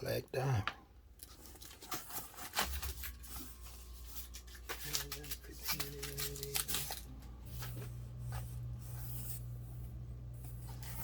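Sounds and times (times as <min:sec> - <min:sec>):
packaging rustling and scraping: 0:01.2 - 0:11.0
steady low hum: 0:02.0 - 0:11.0.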